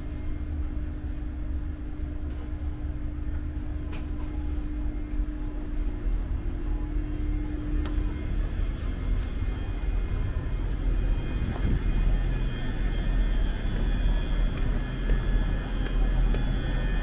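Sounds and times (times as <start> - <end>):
faint high whine: 0.0 - 17.0
train hum and low rumble: 0.0 - 17.0.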